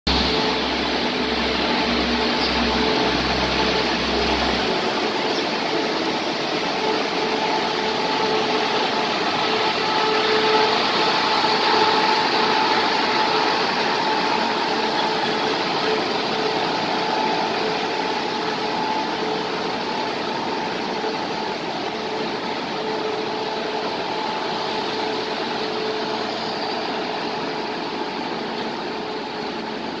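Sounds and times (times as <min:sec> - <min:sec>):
passenger train running: 0:00.1 - 0:30.0.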